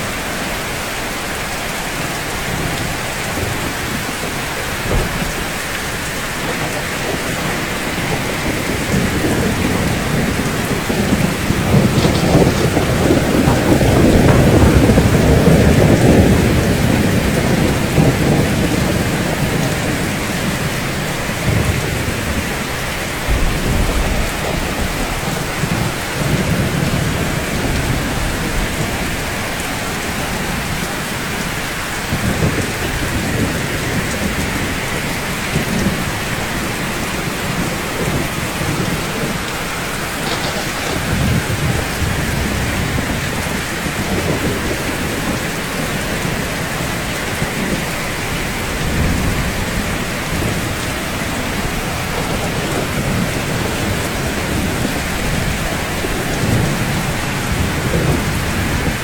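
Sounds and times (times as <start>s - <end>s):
rain falling on rooftops: 0.0s - 59.0s.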